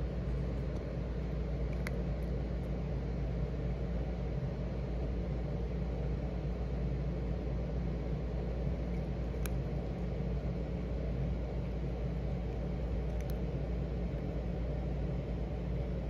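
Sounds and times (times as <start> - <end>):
faint hum: 0.0 - 16.0
low background rumble: 0.0 - 16.0.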